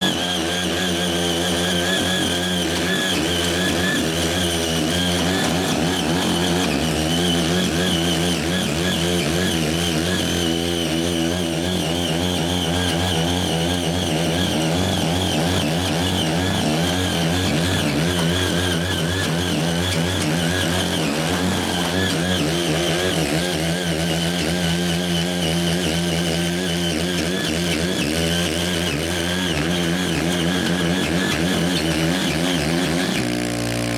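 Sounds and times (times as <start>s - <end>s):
cultivator engine running: 0.0s - 33.9s.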